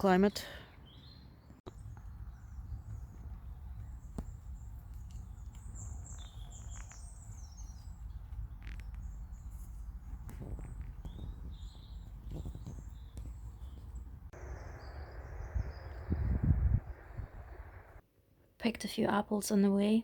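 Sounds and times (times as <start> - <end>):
small birds chirping: 0.0 - 18.0
steady low rumble: 1.7 - 18.0.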